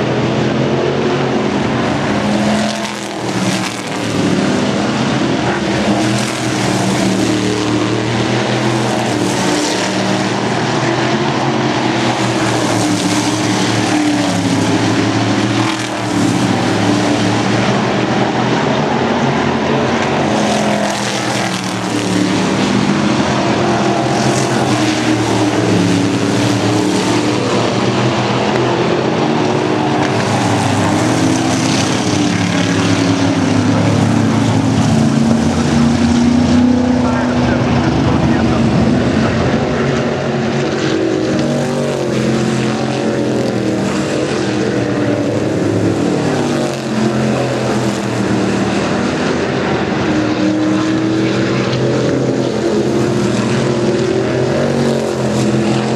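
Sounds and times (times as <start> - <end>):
race cars passing at speed: 0.0 - 55.9.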